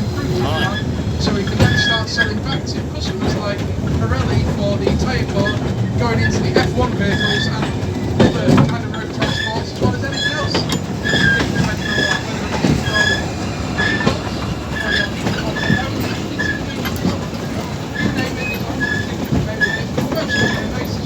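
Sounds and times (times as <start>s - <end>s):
railway wagon rumbling on track: 0.0s - 21.0s.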